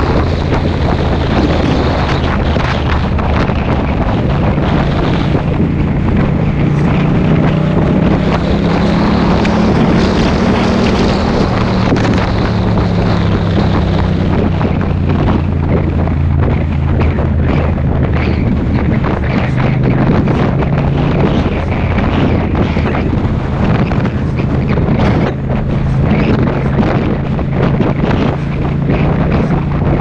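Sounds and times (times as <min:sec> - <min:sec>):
motorcycle engine running: 0:00.0 - 0:30.0
wind rush on microphone: 0:00.0 - 0:30.0.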